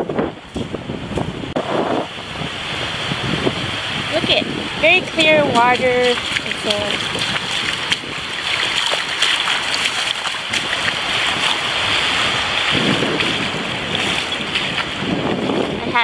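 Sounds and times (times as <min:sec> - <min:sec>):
small waves washing on sand: 0:01.6 - 0:16.0.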